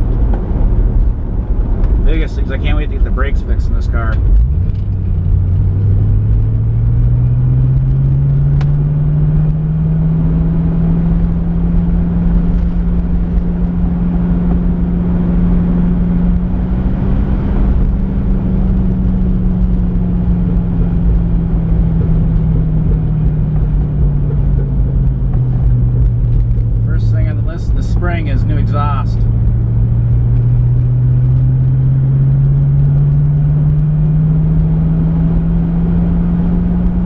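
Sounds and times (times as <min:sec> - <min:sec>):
car engine and exhaust droning: 0:00.0 - 0:37.0.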